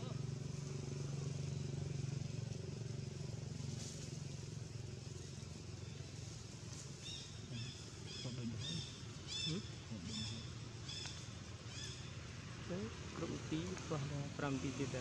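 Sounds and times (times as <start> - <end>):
outdoor background noise: 0.0 - 15.0
vehicle engine hum: 0.0 - 15.0.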